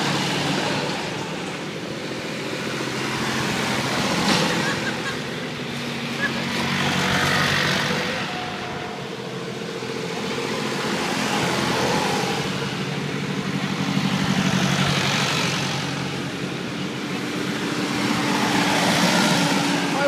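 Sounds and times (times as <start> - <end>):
tractor engines passing: 0.0 - 20.0.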